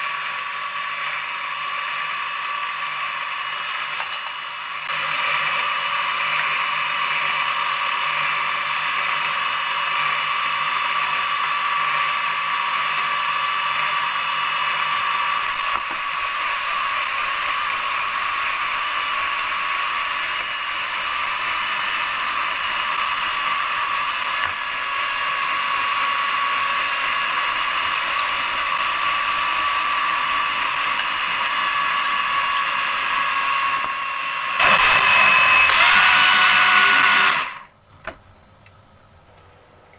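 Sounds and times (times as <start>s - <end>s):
hand mixer whining: 0.0s - 37.7s.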